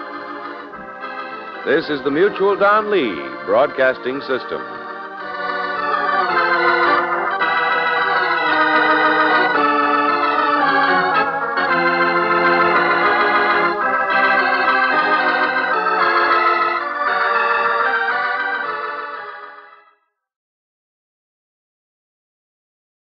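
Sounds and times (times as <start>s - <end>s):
organ playing held chords: 0.0s - 20.0s.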